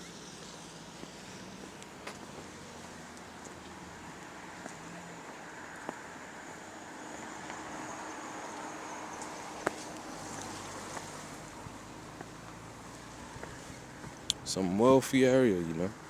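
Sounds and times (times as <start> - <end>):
vehicle passing: 0.0 - 15.9
street traffic noise: 0.0 - 16.0.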